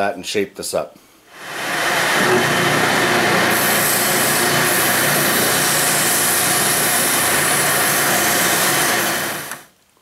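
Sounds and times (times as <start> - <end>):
spindle sander running: 1.4 - 9.7
wood being sanded hiss: 1.4 - 9.7.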